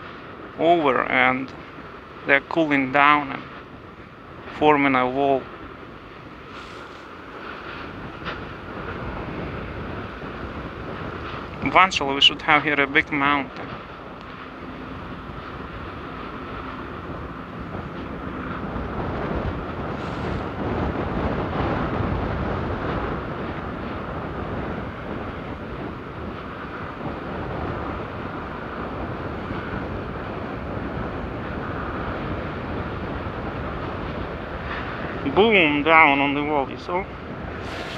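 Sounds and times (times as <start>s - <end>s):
lava fountain rumbling: 0.0s - 37.9s
wind buffeting microphone: 0.0s - 37.9s.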